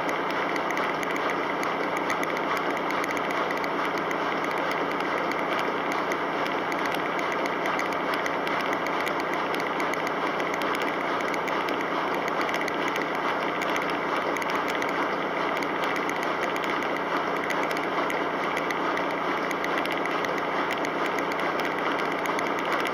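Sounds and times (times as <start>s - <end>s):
washing machine running: 0.0s - 22.9s.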